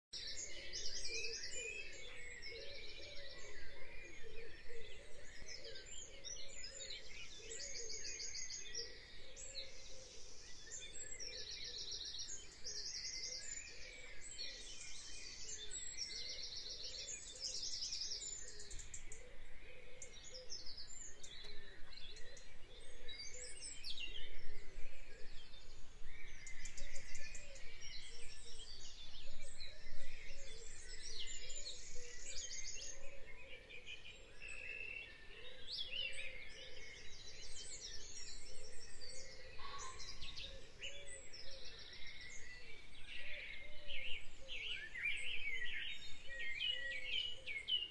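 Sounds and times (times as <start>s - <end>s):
birds chirping and singing: 0.2s - 47.9s.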